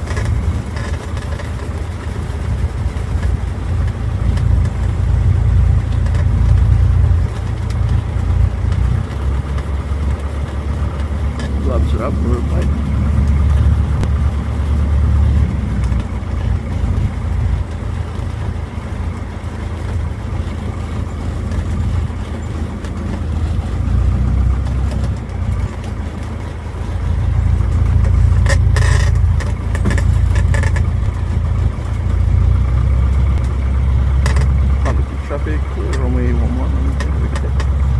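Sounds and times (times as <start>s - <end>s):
airplane engine droning: 0.0s - 37.9s.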